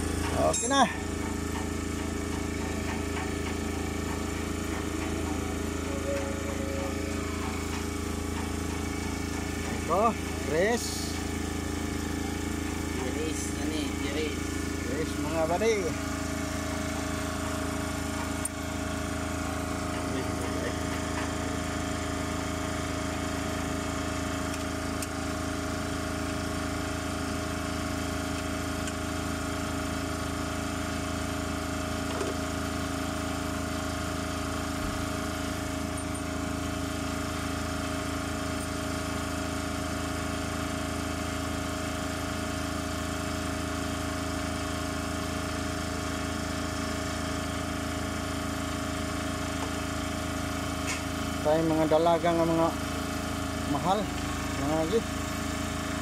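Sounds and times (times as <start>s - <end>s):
machine motor running: 0.0s - 56.0s.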